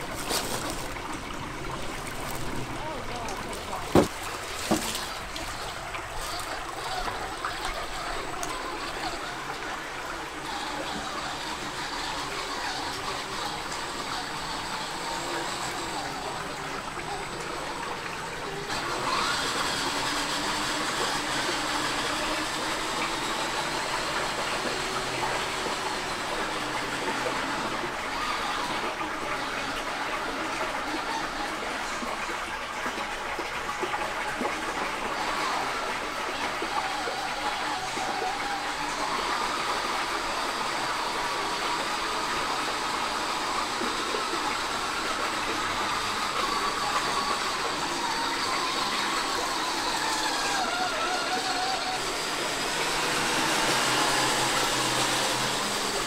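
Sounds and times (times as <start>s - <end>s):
creek water splashing: 0.0s - 56.0s
electric toy car motor whine: 6.2s - 31.7s, 35.0s - 56.0s.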